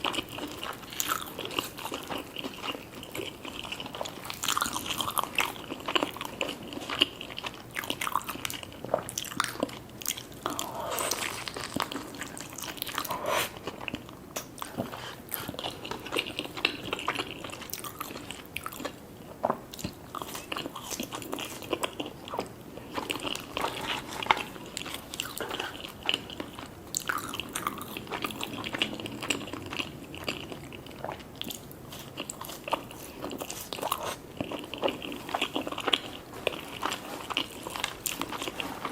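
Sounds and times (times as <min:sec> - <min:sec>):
crunchy chewing of fried chicken: 0:00.0 - 0:38.9.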